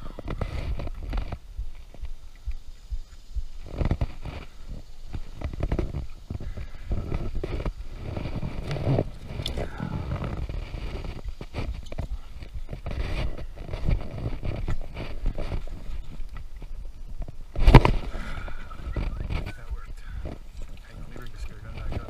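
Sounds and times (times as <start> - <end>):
low rumble: 0.0 - 22.0.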